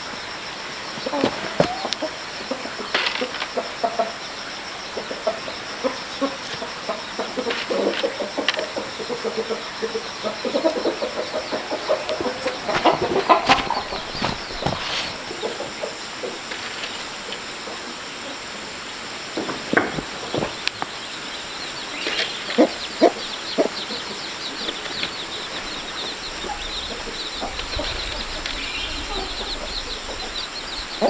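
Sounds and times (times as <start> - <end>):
chickens clucking: 0.1 - 31.0.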